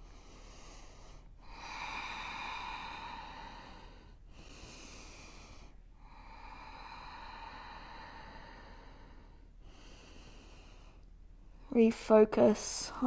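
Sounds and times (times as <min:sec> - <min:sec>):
woman breathing deeply: 0:00.0 - 0:11.7.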